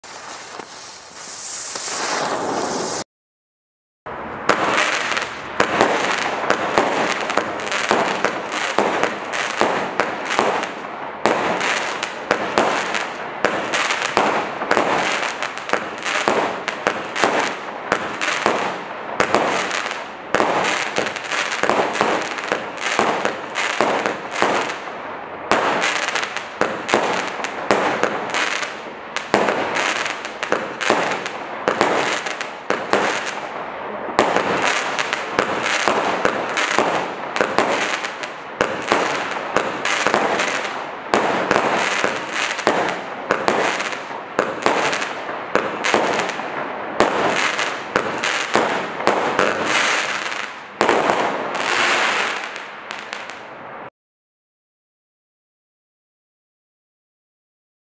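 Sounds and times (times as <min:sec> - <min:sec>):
fireworks reports and crackling: 0:00.0 - 0:03.1, 0:04.1 - 0:53.9.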